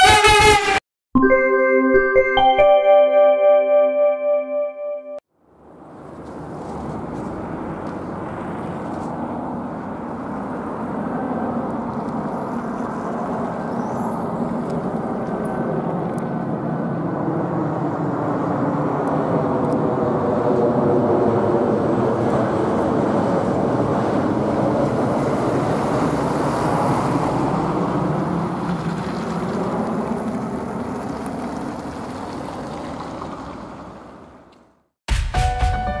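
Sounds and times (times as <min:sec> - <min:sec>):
jet engine rumble overhead: 0:05.5 - 0:34.4.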